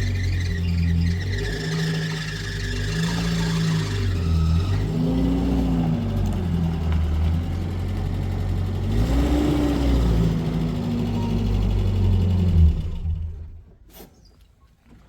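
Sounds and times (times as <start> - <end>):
vehicle engine rumbling: 0.0 - 13.8.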